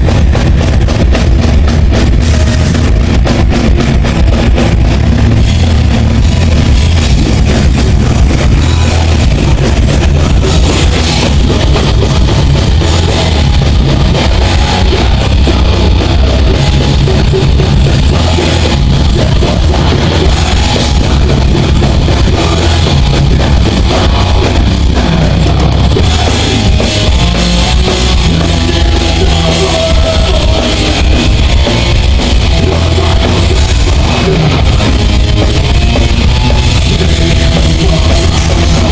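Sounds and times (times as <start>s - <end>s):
distorted electric guitars: 0.0s - 38.9s
drum kit: 0.0s - 38.9s.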